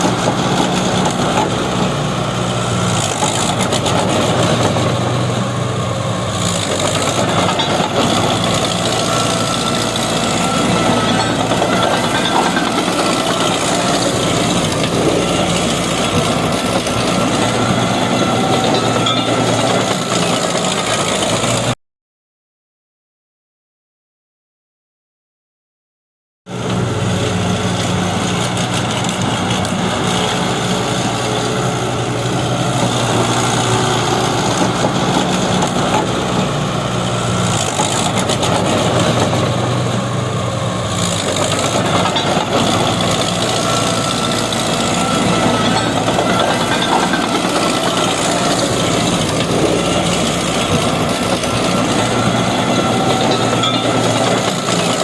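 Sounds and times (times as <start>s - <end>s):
bulldozer diesel engine running: 0.0s - 21.8s, 26.5s - 55.0s.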